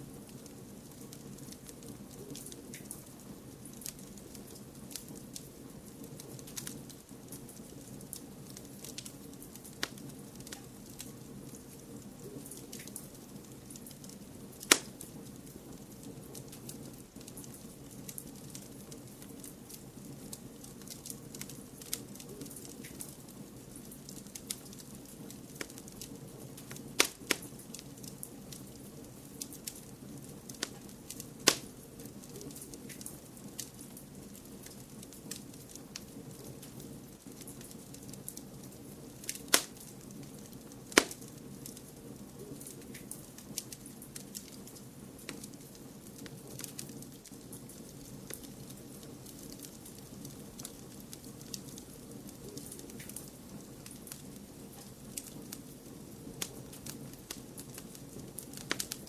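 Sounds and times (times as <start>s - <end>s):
sharp loud fire snaps: 0.0s - 59.0s
wood fire crackling: 0.0s - 59.0s.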